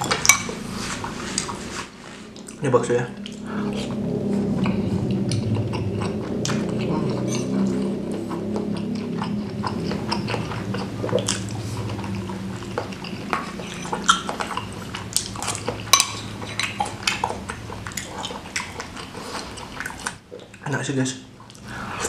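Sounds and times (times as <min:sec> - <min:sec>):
chewing and mouth sounds: 0:00.0 - 0:22.0.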